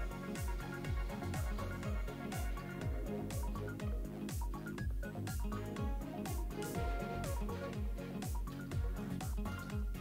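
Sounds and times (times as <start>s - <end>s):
background music with steady beat: 0.0s - 10.0s
deep kick drum: 0.0s - 10.0s.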